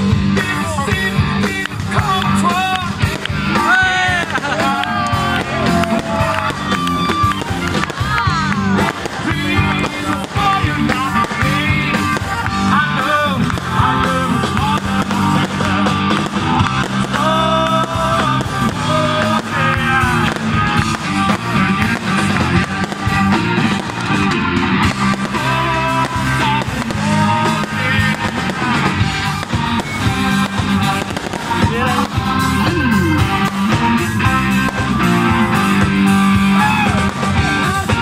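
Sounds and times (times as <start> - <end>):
rock music with guitar: 0.0 - 38.0.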